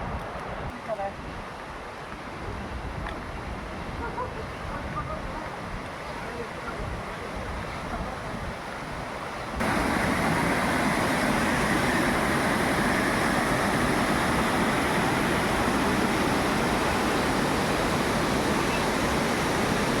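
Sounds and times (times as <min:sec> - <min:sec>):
river water rushing: 0:03.5 - 0:20.0.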